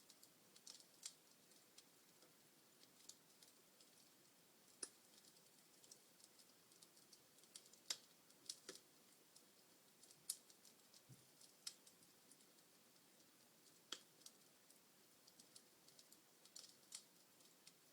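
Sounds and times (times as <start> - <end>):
faint fire hiss: 0.0 - 17.9
wood fire crackling and popping: 0.0 - 17.9.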